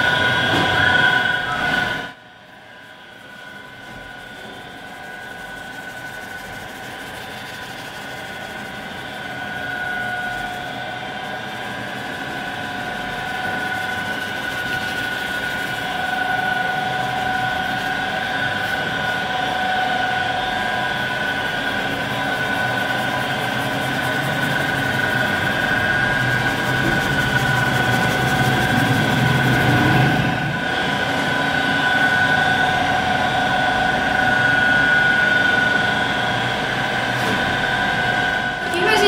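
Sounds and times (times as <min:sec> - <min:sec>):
high even whine: 0:00.0 - 0:39.0
machinery drone: 0:00.0 - 0:39.0.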